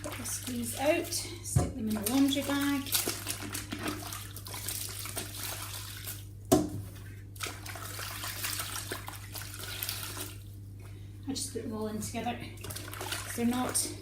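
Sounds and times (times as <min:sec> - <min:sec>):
water splashing and dripping: 0:00.0 - 0:10.5, 0:12.6 - 0:13.9.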